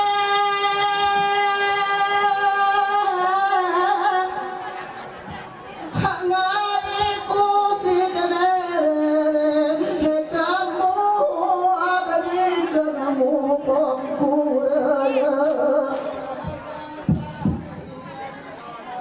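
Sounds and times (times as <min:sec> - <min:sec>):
high voice singing a chant: 0:00.0 - 0:05.0, 0:05.9 - 0:17.8.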